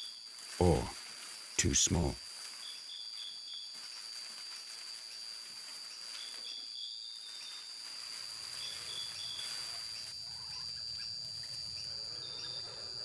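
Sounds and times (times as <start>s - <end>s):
insect chirps: 0.0s - 13.0s.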